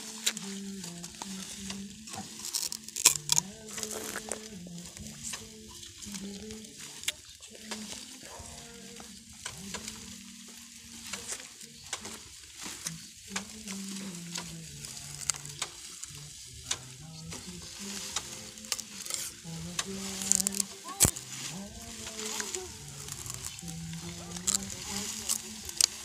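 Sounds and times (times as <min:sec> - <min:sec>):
dry leaves rustling: 0:00.0 - 0:26.0.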